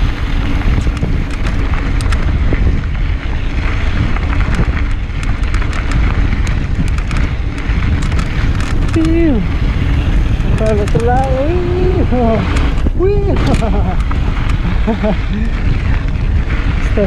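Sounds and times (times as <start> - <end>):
bike clicks and rattles: 0.0 - 17.0
wind rumbling on microphone: 0.0 - 17.0.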